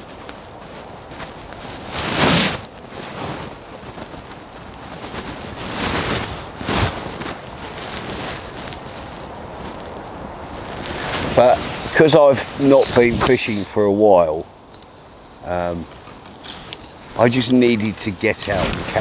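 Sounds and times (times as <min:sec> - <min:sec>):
wind gusting over microphone: 0:00.0 - 0:15.3, 0:16.3 - 0:19.0.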